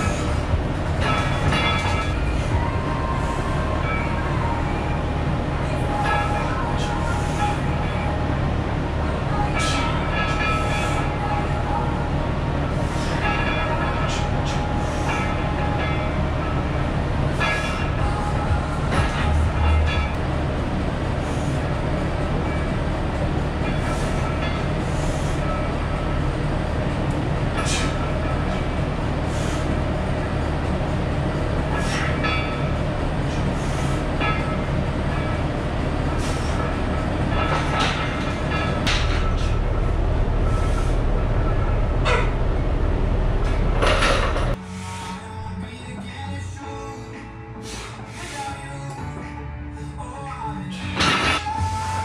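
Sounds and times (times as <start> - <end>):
drum fan whooshing: 0.0 - 45.3.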